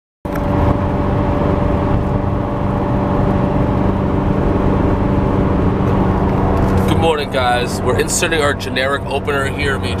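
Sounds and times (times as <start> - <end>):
car engine drone: 0.3 - 10.0
constant hum: 0.3 - 10.0
tyre and road noise: 0.3 - 10.0.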